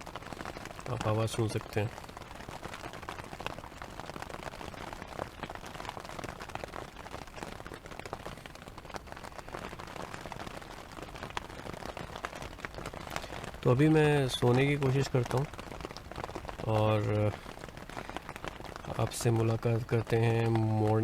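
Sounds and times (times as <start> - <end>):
rain on a tent: 0.0 - 21.0.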